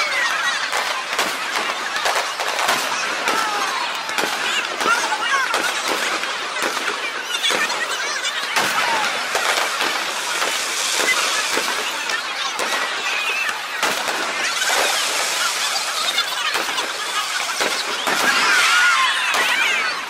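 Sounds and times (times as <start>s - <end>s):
crowd chatter: 0.0s - 20.0s
fireworks popping and crackling: 0.0s - 20.0s.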